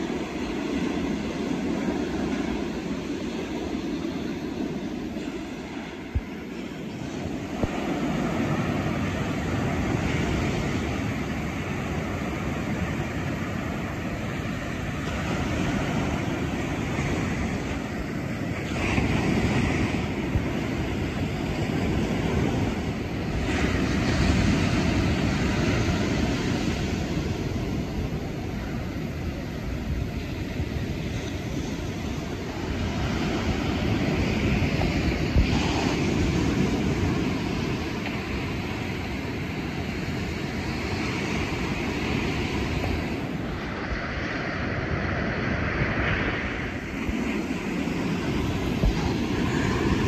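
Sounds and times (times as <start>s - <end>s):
ocean surf breaking on shore: 0.0s - 50.0s.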